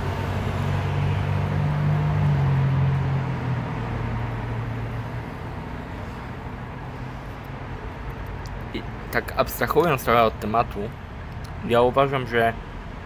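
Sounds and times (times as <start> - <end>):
street traffic: 0.0 - 13.0
vehicle engine humming: 0.0 - 13.0.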